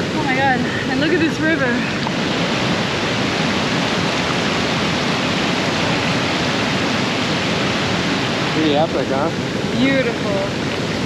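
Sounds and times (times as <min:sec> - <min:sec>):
river rapids roaring: 0:00.0 - 0:11.0.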